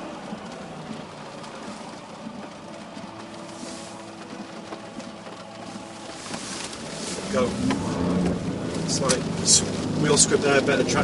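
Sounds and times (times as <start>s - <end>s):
diesel car engine idling: 0.0s - 11.0s.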